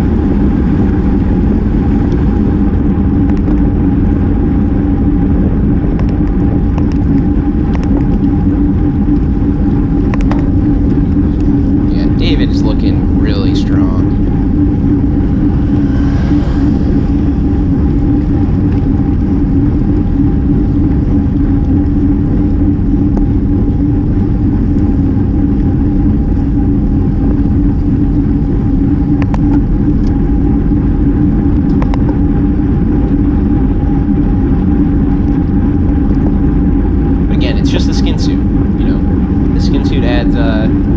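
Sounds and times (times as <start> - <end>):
bike road noise: 0.0 - 40.9
steady low hum: 0.0 - 40.9
wind rush on microphone: 0.0 - 40.9.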